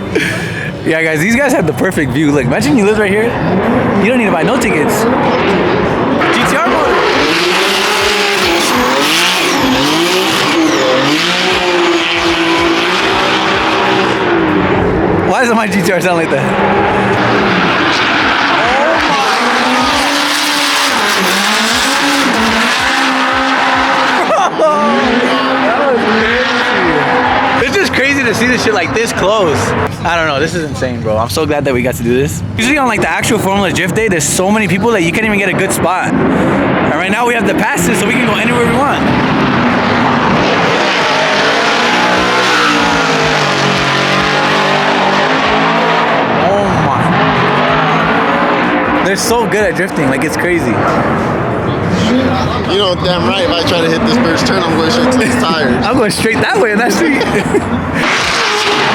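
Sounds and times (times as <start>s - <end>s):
car engines at high revs: 0.0s - 58.9s.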